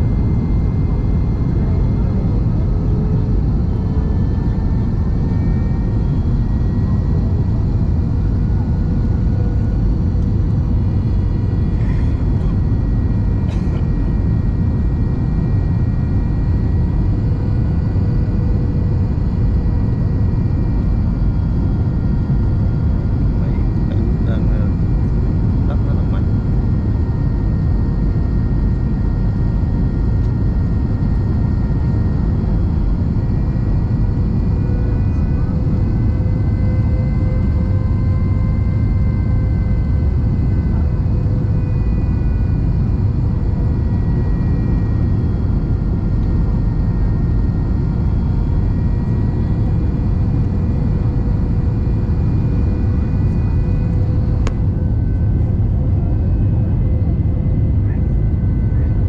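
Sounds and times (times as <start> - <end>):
airliner cabin engine rumble: 0.0 - 59.0
faint steady engine tones: 0.0 - 59.0.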